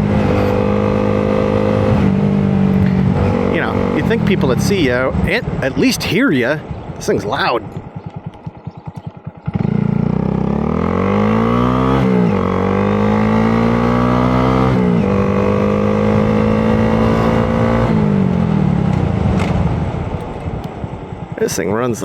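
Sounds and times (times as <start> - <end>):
motorcycle engine revving: 0.0 - 21.3.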